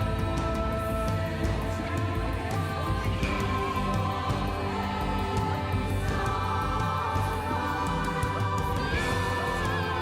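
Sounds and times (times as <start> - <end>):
slow music with held notes: 0.0 - 10.0.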